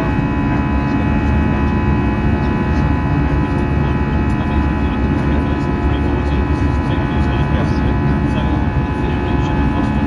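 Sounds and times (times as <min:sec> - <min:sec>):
aircraft engine drone in cabin: 0:00.0 - 0:10.0.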